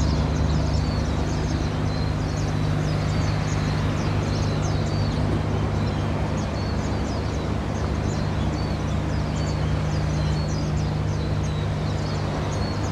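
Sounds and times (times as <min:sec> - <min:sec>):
birds chirping: 0:00.0 - 0:12.9
ship engine drone: 0:00.0 - 0:12.9.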